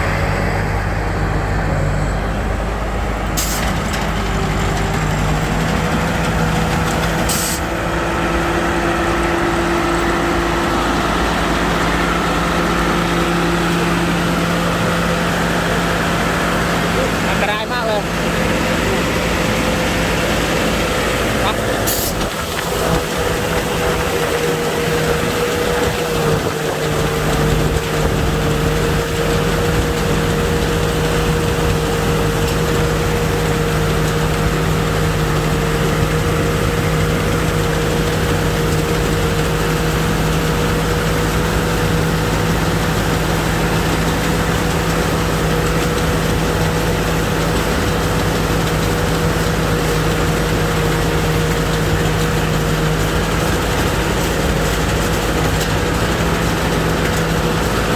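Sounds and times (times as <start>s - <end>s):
combine harvester engine running: 0.0s - 57.9s.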